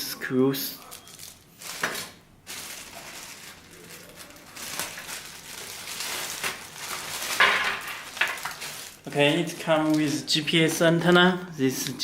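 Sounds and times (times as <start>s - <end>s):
plastic packaging crinkling: 0.8s - 11.1s.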